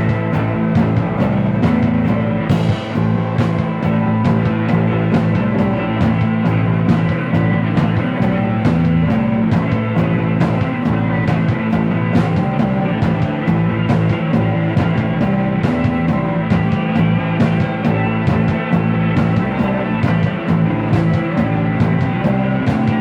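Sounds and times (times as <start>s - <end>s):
drums keeping a steady beat: 0.0s - 23.0s
sustained rock guitar: 0.0s - 23.0s.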